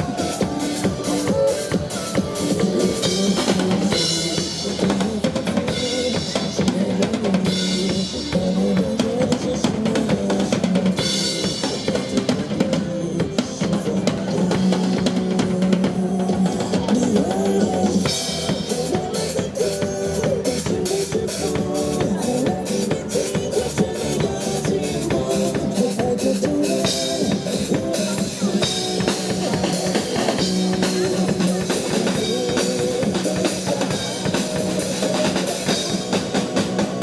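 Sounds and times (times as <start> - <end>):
up-tempo music with drums: 0.0 - 37.0.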